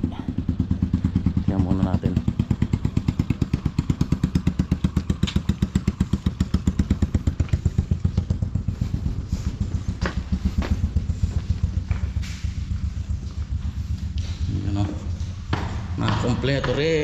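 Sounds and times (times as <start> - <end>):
small engine puttering: 0.0 - 17.0.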